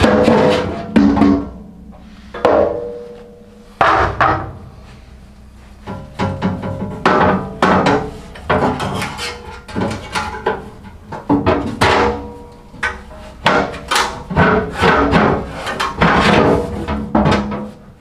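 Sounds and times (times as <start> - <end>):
metal panels clanking: 0.0 - 18.0.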